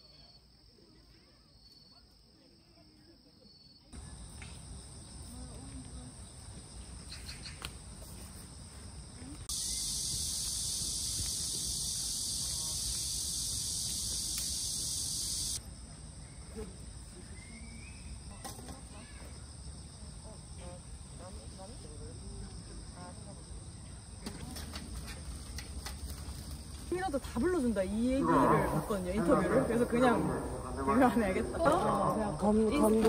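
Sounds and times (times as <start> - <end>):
insects chirring: 1.5 - 33.0
cicadas buzzing: 4.0 - 33.0.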